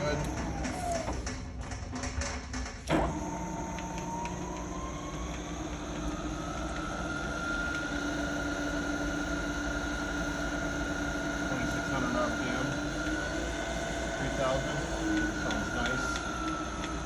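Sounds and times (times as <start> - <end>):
milling machine spindle whine: 2.9 - 17.0.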